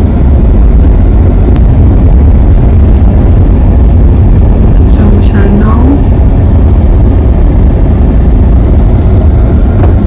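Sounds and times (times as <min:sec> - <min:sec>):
car road and wind noise: 0:00.0 - 0:10.0.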